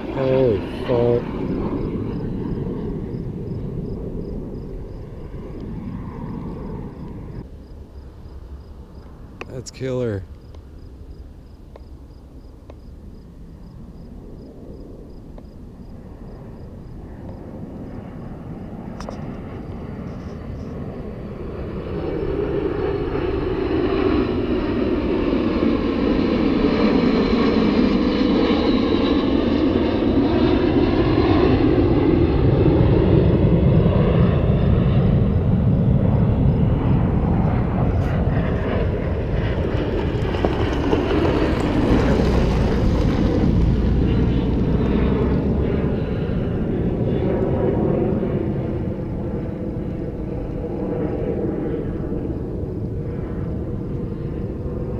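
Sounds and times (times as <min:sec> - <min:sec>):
jet aircraft roaring past: 0:00.0 - 0:54.9.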